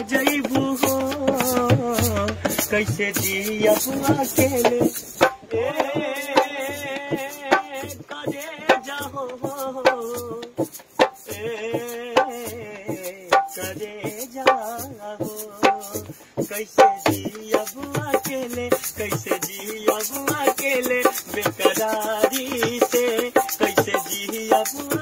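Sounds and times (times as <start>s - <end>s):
hand drum beating: 0.0s - 25.0s
man singing folk song: 0.0s - 25.0s.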